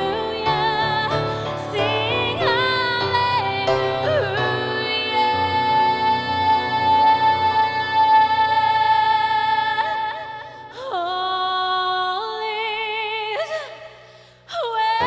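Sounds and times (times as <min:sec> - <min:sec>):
woman singing slow ballad: 0:00.0 - 0:15.0.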